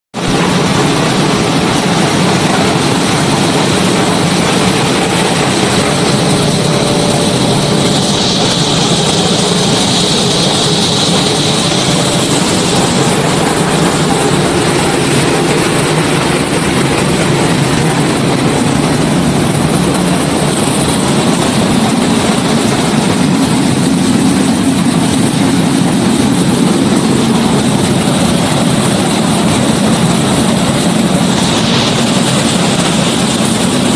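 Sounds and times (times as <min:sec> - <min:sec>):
production line machinery running: 0:00.2 - 0:33.9.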